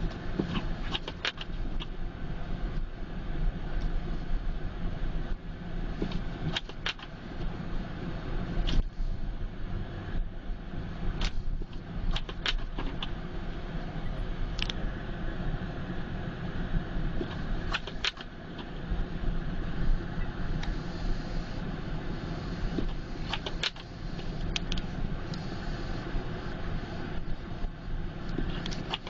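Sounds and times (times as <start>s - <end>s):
car driving on snow: 0.0s - 29.0s.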